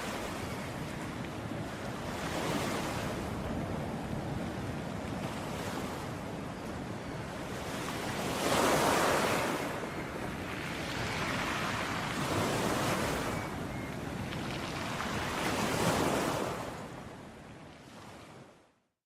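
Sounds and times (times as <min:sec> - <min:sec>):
ocean waves on a beach: 0:00.0 - 0:18.8.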